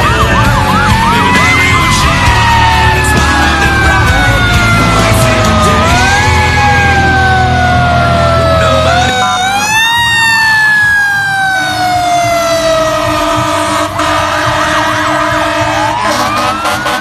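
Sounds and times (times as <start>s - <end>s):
fire engine sirens: 0.0s - 17.0s.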